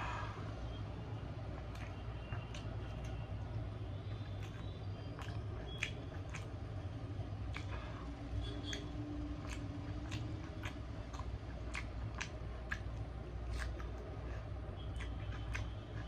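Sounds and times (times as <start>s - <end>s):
person chewing food: 0.0s - 16.0s
steady low hum: 0.0s - 16.0s.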